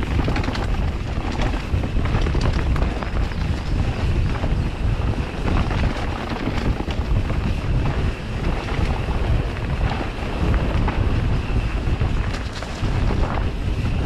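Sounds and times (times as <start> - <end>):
bike clicks and knocks: 0.0 - 13.9
wind buffeting microphone: 0.0 - 14.0.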